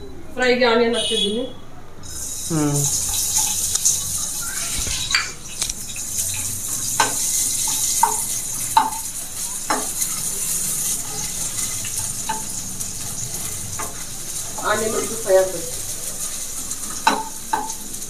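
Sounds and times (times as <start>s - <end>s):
vegetables sizzling in a pan: 2.1s - 18.0s
spatula scraping pan: 2.9s - 18.0s.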